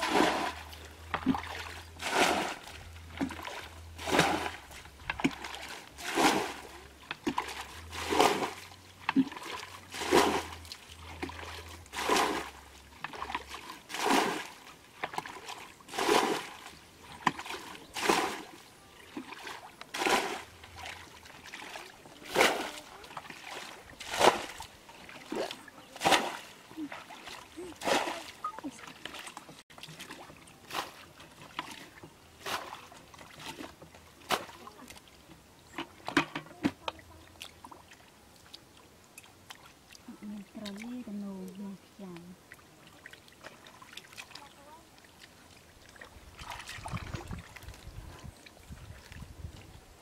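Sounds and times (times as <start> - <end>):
bucket scooping water: 0.0 - 49.8.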